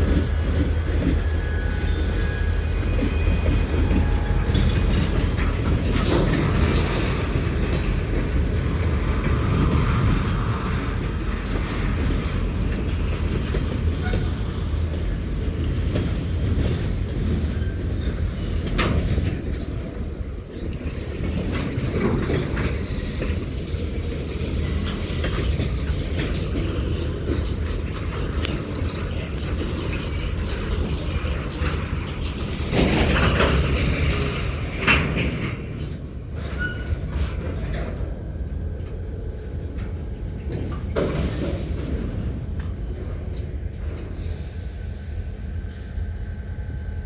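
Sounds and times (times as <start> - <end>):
railroad cars rumbling: 0.0 - 47.0.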